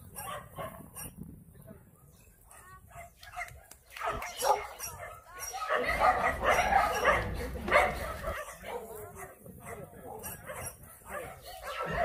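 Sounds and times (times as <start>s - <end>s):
dogs barking: 0.0s - 1.2s, 2.5s - 12.0s
people's voices: 1.5s - 12.0s.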